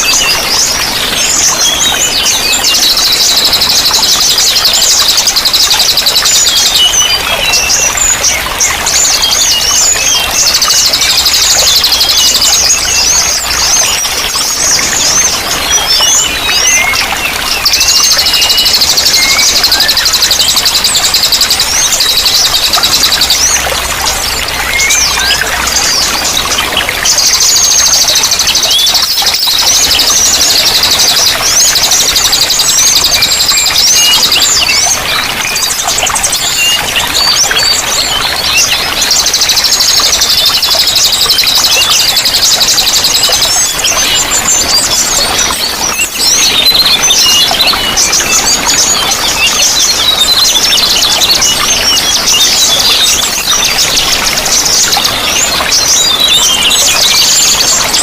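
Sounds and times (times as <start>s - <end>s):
running water: 0.0s - 58.0s
songbirds trilling and chirping: 0.0s - 58.0s.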